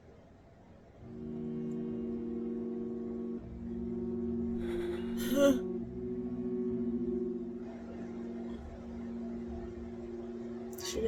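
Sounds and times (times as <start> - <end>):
held string chord: 1.0 - 11.0.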